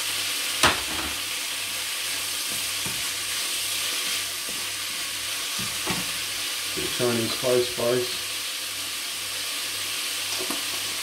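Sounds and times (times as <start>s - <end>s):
rice sizzling in frying pan: 0.0s - 11.0s.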